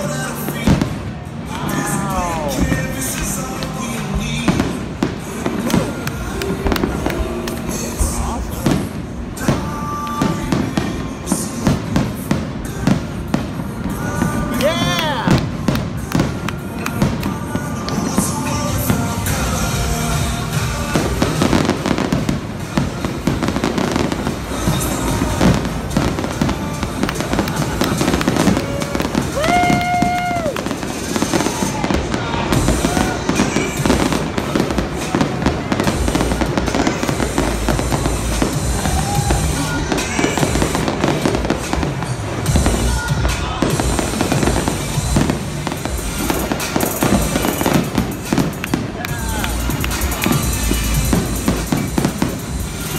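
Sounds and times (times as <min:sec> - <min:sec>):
fireworks booming and crackling: 0:00.0 - 0:52.9
music over sound system: 0:00.0 - 0:52.9.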